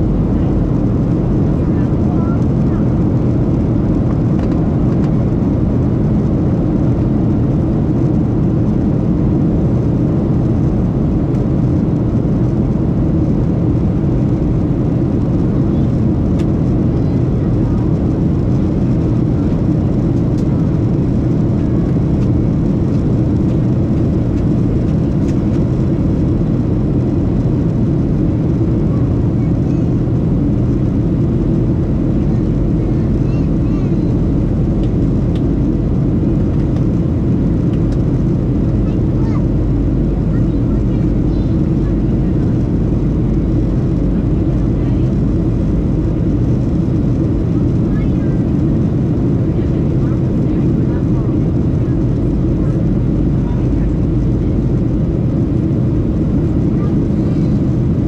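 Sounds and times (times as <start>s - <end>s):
airplane cabin roar: 0.0s - 58.0s.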